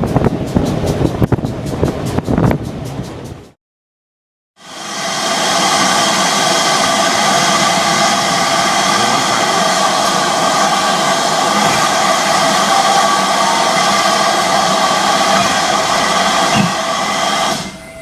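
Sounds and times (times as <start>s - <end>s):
train rushing noise: 0.0s - 3.6s, 4.6s - 18.0s.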